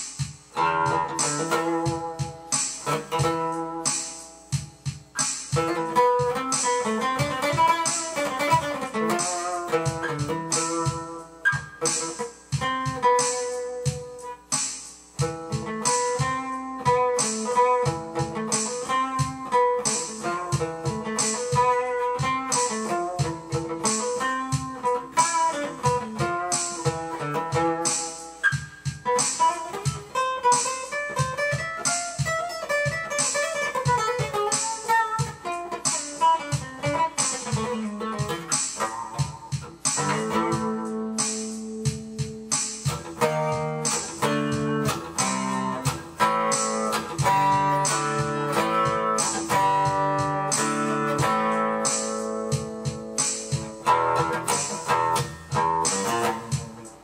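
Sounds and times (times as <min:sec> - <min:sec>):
fingerstyle acoustic guitar: 0:00.0 - 0:14.4, 0:15.2 - 0:57.0.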